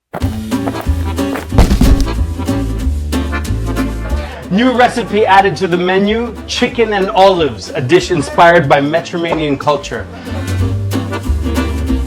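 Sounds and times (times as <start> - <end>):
upbeat swing music: 0.1 - 12.0.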